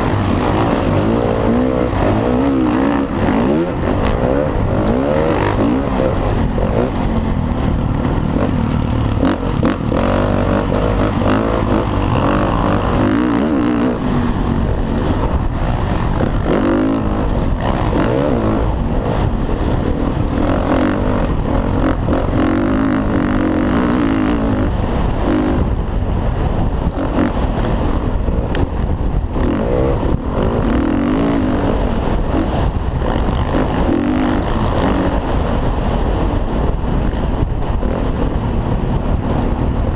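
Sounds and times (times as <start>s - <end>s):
dirt bike engine revving: 0.0s - 39.4s.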